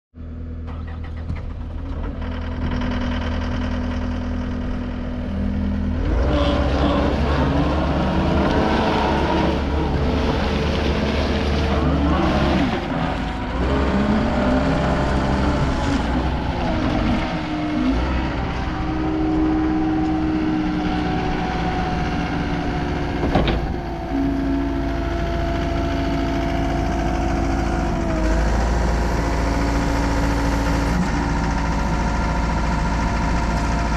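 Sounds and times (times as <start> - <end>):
diesel engine running: 0.2 - 33.9
hydraulic whine: 0.6 - 33.9.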